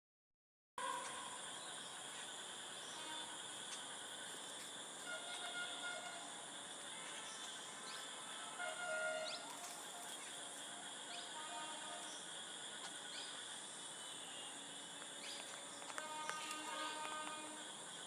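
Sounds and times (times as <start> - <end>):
high insect drone: 0.8 - 18.0.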